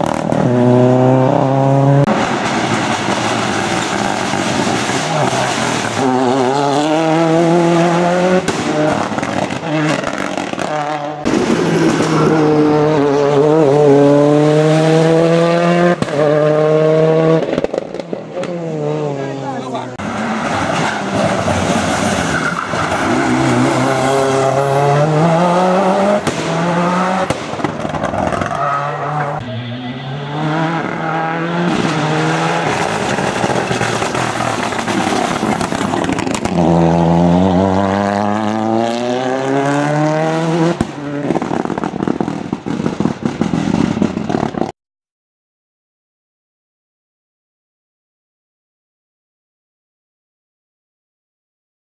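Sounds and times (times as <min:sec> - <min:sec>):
rally car engines revving: 0:00.0 - 0:44.7.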